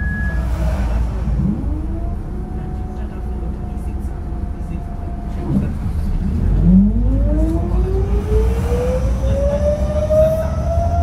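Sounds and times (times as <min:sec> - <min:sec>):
bus transmission whining: 0:00.0 - 0:11.0
engine rumble: 0:00.0 - 0:11.0.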